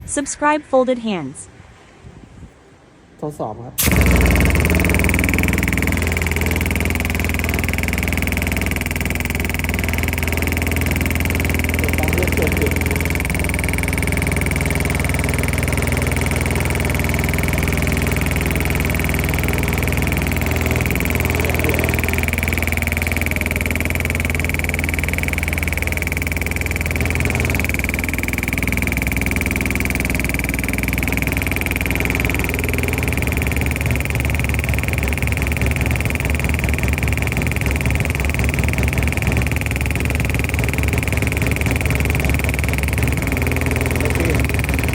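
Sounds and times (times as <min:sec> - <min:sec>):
hydraulic pump high whine: 0:03.8 - 0:44.9
hydraulic pump low hum: 0:03.8 - 0:44.9.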